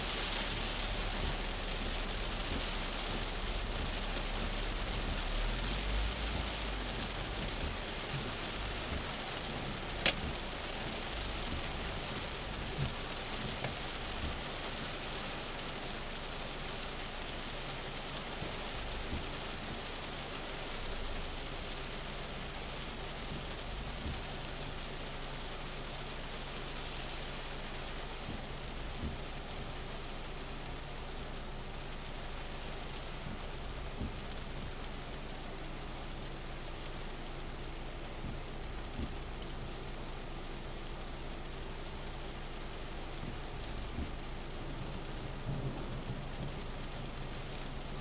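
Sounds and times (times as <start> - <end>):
heavy rain on a car: 0.0 - 48.0.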